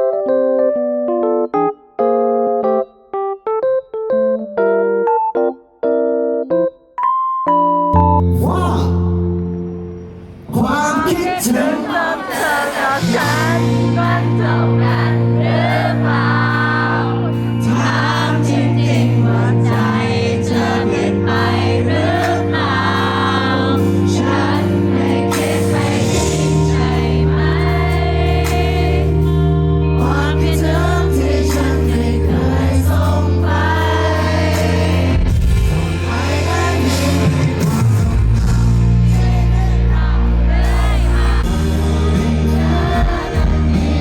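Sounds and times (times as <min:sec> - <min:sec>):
song with singing voice: 0:08.2 - 0:44.0.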